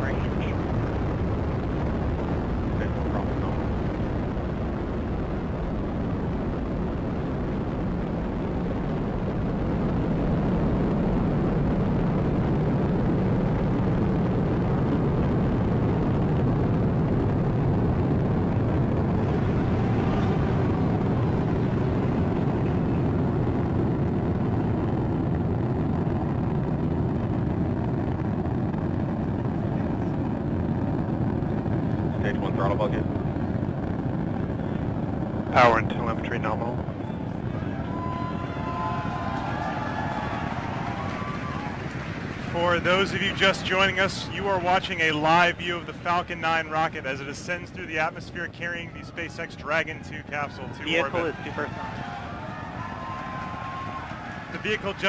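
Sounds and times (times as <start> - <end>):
rocket engines rumbling: 0.0 - 55.0.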